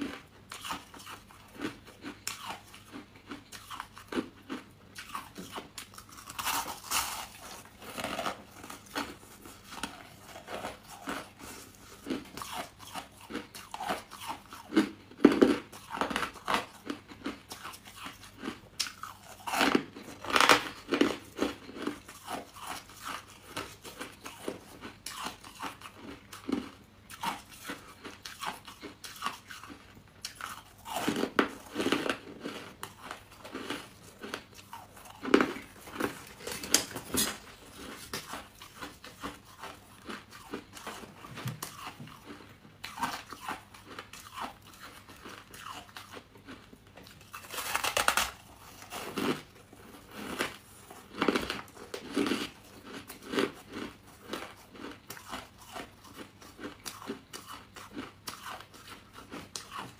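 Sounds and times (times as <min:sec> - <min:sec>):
crisp crunching bites: 0:00.0 - 0:46.6, 0:47.2 - 0:59.9.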